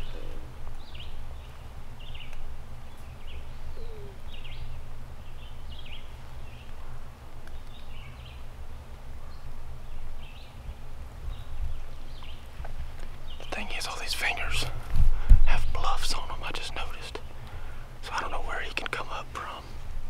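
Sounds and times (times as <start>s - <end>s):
songbirds chirping: 0.0s - 20.0s
steady low rumble: 0.0s - 20.0s.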